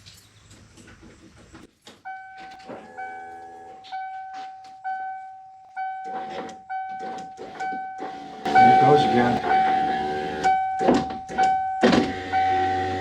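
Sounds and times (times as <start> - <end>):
car warning chime beeping: 2.0 - 13.0.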